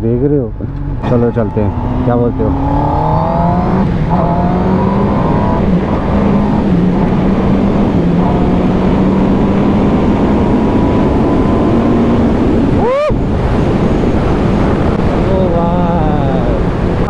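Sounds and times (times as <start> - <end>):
motorcycle engine accelerating: 0.0 - 15.4
wind rush on microphone: 0.0 - 17.0.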